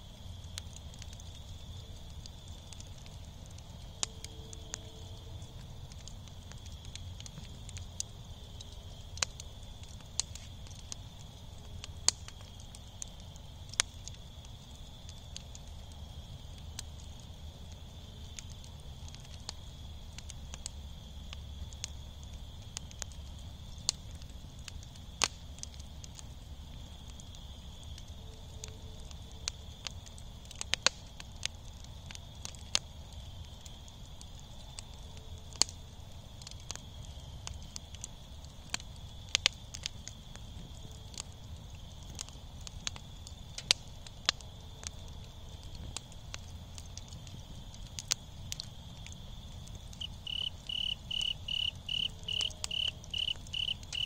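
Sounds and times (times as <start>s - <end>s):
embers crackling and popping: 0.0s - 54.0s.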